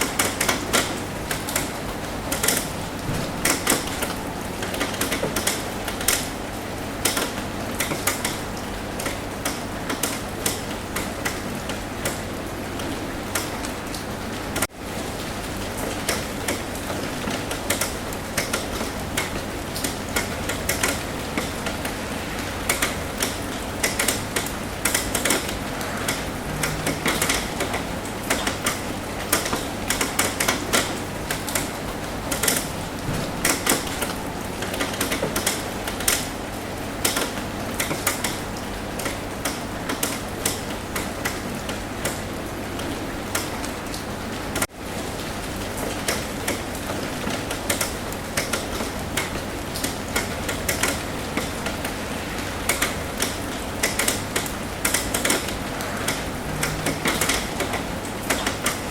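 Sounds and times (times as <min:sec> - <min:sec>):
rain tapping on a roof: 0:00.0 - 0:58.9.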